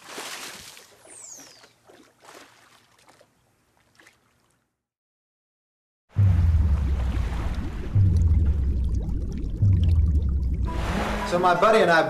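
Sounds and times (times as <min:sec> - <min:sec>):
water splashing and sloshing: 0:00.0 - 0:04.8, 0:06.1 - 0:11.6.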